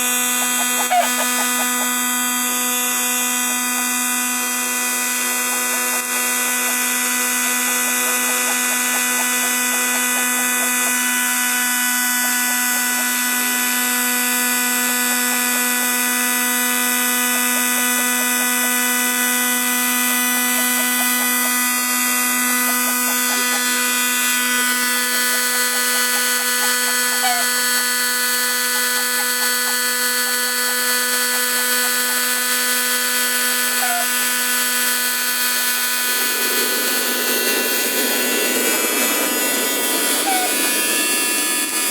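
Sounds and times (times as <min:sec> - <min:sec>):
heat gun motor whine: 0:00.0 - 0:41.9.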